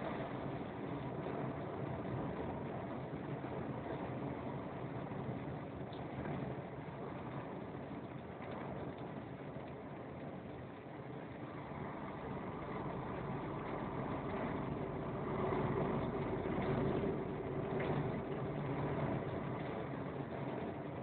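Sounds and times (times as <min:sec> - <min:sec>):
vehicle driving on wet road: 0:00.0 - 0:10.4, 0:11.1 - 0:21.0.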